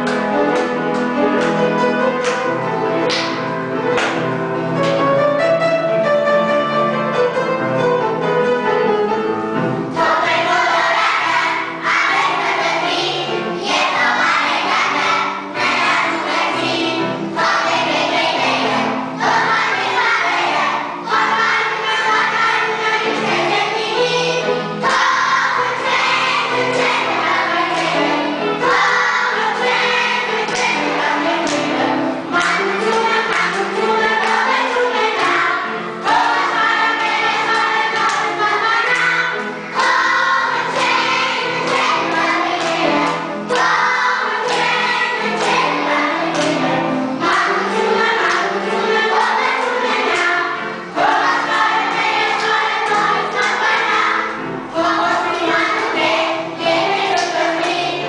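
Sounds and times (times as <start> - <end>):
upright piano dance tune: 0.0 - 58.0
young children singing: 9.8 - 58.0.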